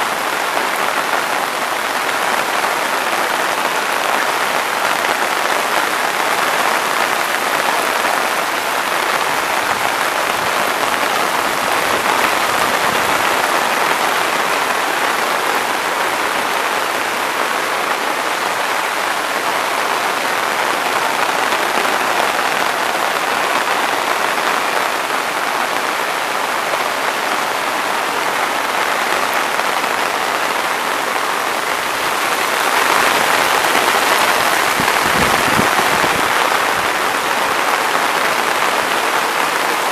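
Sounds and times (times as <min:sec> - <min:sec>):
floodwater running down a footpath: 0:00.0 - 0:39.9
heavy rain: 0:00.0 - 0:39.9.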